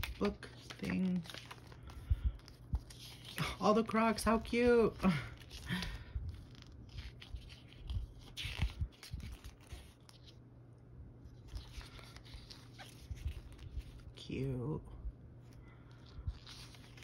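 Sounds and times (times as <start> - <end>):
paper pages rustling: 0.0 - 10.4, 11.3 - 14.2, 15.5 - 17.0.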